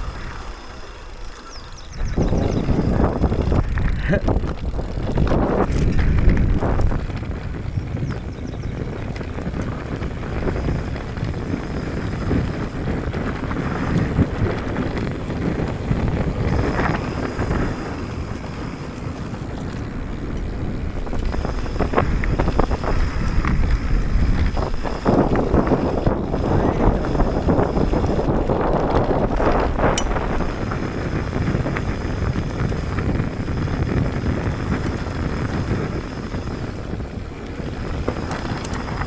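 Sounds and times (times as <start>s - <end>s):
wind rushing over microphone: 0.0s - 39.0s
bike knocking on rocks: 2.7s - 36.0s.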